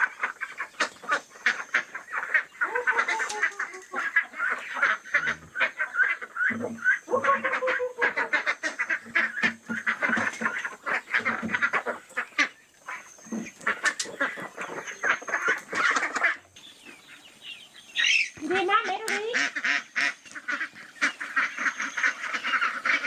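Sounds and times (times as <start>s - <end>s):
waterfowl quacking: 0.0s - 23.0s.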